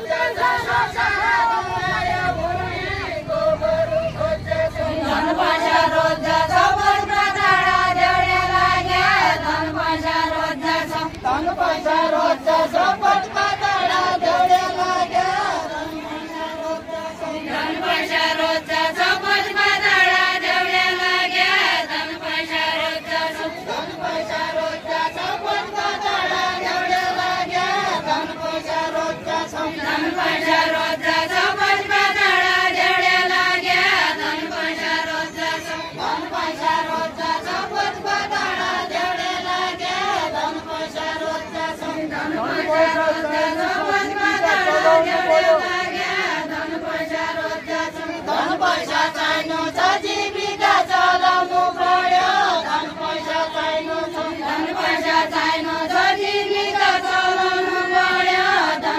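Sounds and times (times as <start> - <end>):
women singing in unison: 0.0 - 58.9.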